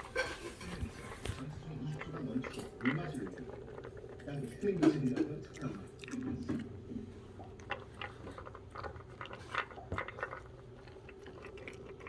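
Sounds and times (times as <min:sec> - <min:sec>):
dog chewing dry kibble: 0:00.0 - 0:12.0.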